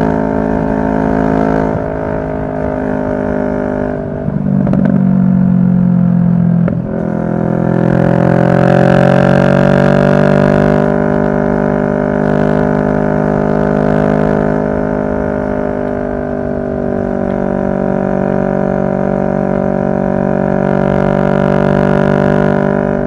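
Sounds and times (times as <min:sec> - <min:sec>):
motorcycle engine droning: 0:00.0 - 0:23.0.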